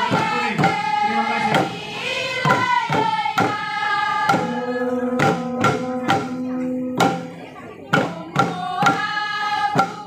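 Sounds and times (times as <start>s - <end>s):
group chanting: 0.0s - 10.0s
hand drums beating: 0.0s - 10.0s.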